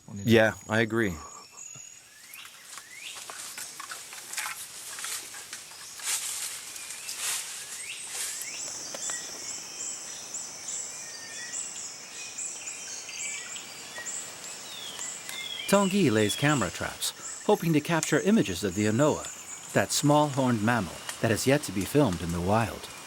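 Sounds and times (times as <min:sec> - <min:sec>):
pulsing insect chorus: 0:00.0 - 0:23.0
bird calls with falling notes: 0:00.1 - 0:03.8, 0:05.8 - 0:23.0.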